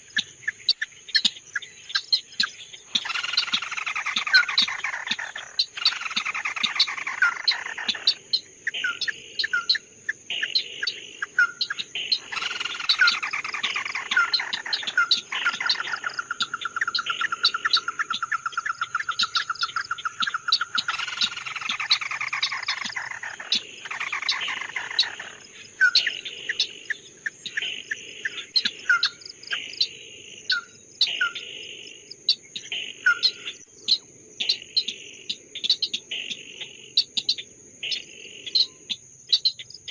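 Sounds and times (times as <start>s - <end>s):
songbird whistling and trilling: 0.0s - 29.9s, 30.5s - 31.5s, 32.3s - 35.0s
high insect drone: 0.0s - 39.9s.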